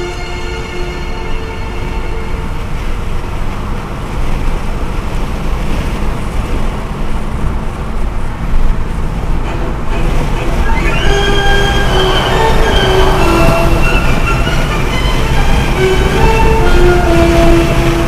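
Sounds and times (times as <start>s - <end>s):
car road noise at speed: 0.0s - 18.0s
wind buffeting microphone: 0.0s - 18.0s.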